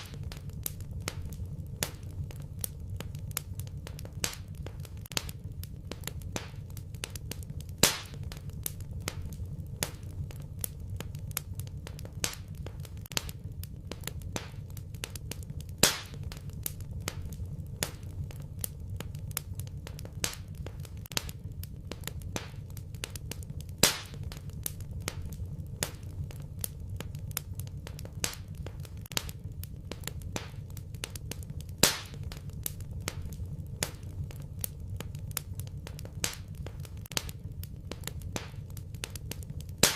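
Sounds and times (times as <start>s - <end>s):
fireplace fire crackling: 0.0s - 39.9s
loud fire pops: 0.0s - 39.9s.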